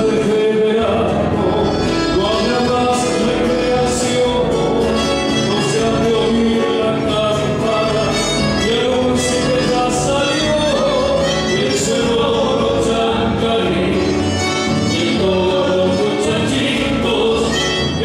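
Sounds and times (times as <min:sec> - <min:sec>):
accordion: 0:00.0 - 0:18.0
acoustic guitars playing: 0:00.0 - 0:18.0
man singing into microphone: 0:00.0 - 0:18.0.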